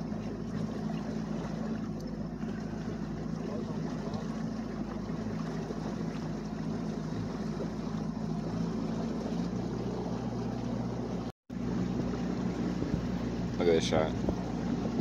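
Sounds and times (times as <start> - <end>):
outboard motor running: 0.0 - 15.0
rushing water: 0.0 - 15.0.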